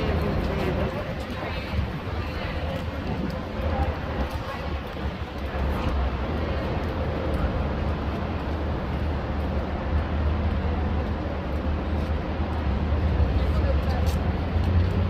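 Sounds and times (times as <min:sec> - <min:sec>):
low rumble of vehicle noise: 0:00.0 - 0:15.0.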